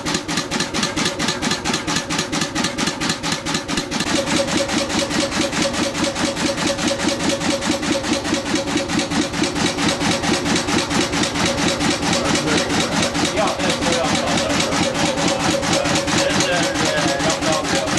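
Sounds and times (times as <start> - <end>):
boat engine idling: 0.0 - 17.9.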